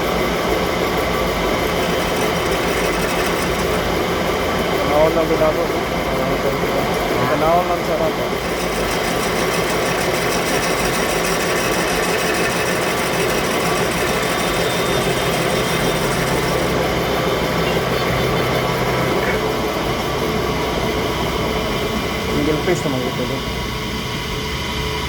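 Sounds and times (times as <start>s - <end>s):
metalworking machine whirring: 0.0s - 24.3s.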